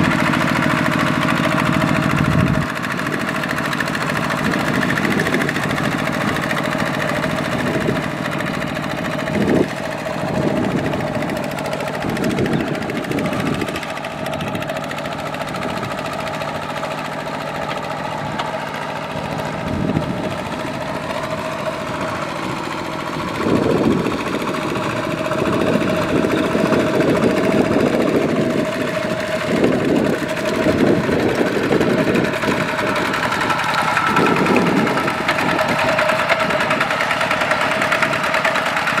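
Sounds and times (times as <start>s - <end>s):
diesel tractor engine running: 0.0s - 39.0s.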